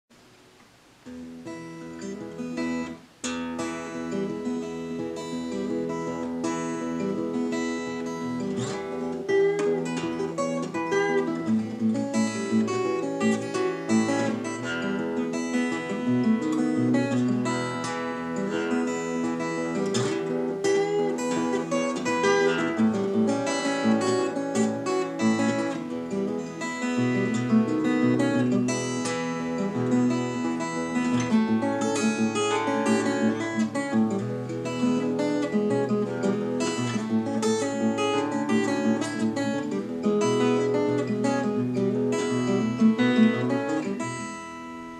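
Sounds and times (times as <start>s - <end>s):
fingerstyle acoustic guitar: 0.1s - 44.9s.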